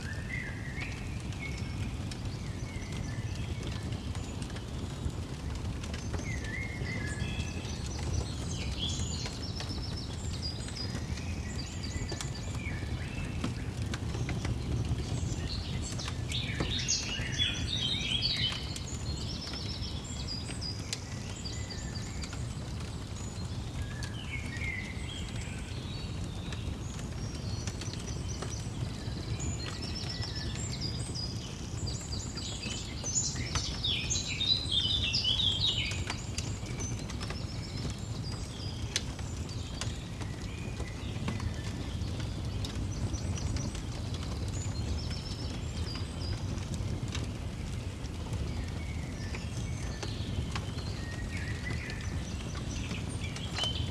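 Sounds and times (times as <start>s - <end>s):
fire crackling: 0.0s - 53.9s
songbirds chirping: 0.0s - 53.9s.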